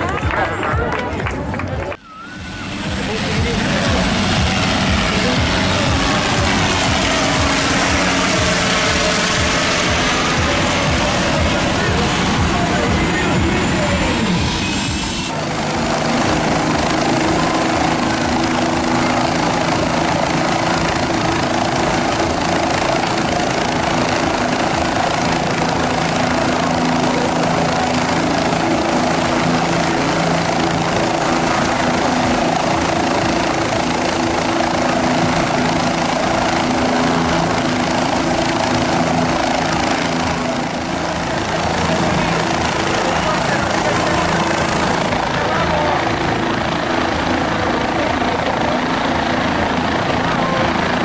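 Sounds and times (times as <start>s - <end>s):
helicopter running: 0.0s - 51.0s.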